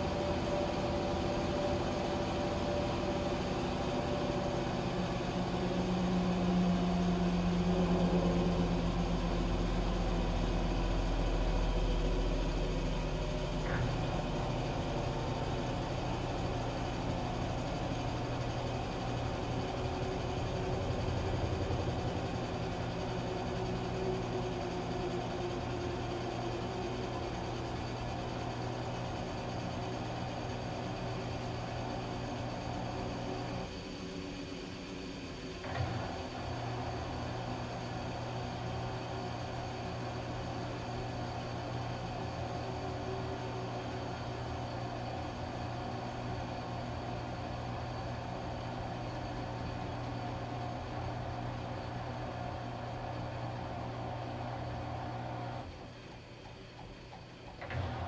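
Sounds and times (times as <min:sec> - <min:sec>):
washing machine motor hum: 0:00.0 - 0:58.0.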